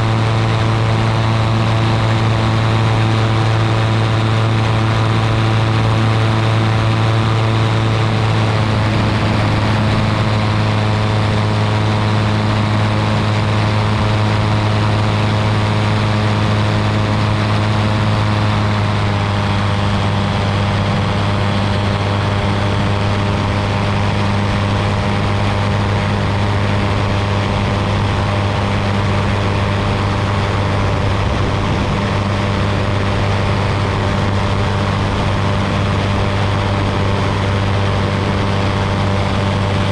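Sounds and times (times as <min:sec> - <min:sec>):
ultralight aircraft engine drone: 0:00.0 - 0:39.9.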